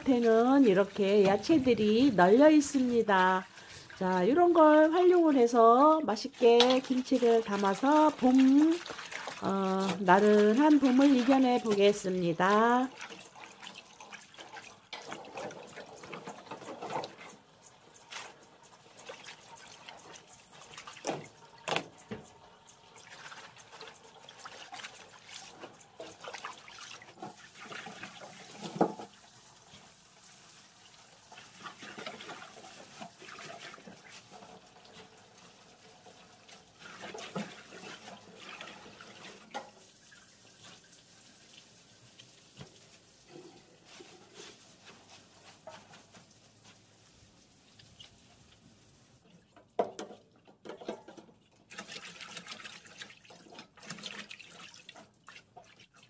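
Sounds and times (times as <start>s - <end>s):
water splashing in a sink: 0.0s - 56.0s.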